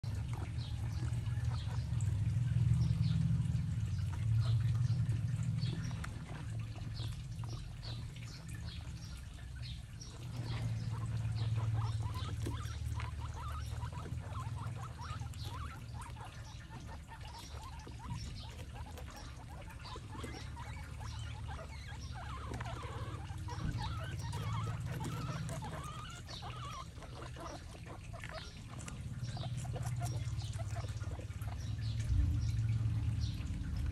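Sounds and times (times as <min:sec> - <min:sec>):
guinea pigs munching: 0:00.0 - 0:33.9
low steady hum: 0:00.0 - 0:33.9.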